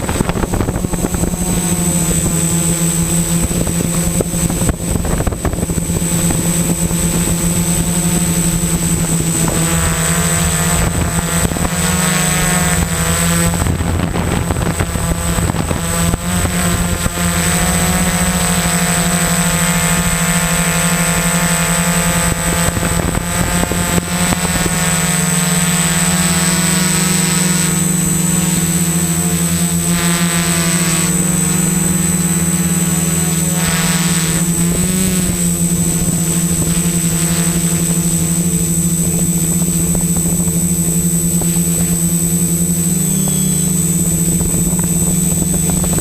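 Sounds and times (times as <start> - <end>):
quadcopter propellers droning: 0.0 - 46.0.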